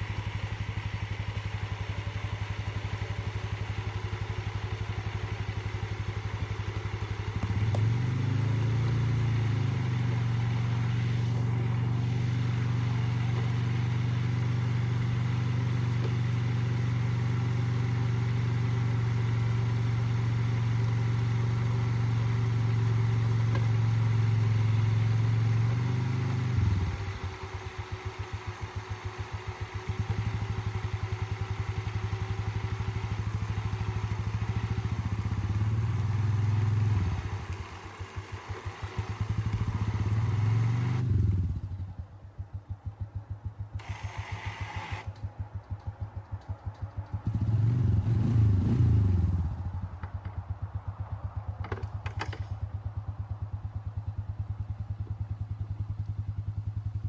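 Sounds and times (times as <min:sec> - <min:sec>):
small engine revving: 0:00.0 - 0:41.9, 0:43.7 - 0:45.2, 0:47.0 - 0:49.8.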